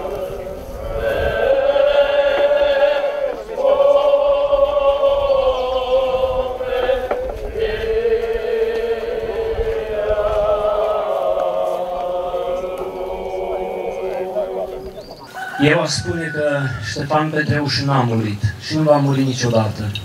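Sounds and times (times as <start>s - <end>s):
voices chanting: 0.0s - 20.0s.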